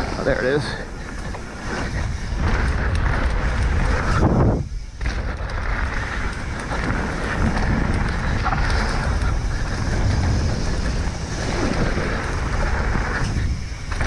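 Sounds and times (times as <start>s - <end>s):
bike tyres on dirt trail: 0.0s - 14.0s
wind rushing on microphone: 0.0s - 14.0s.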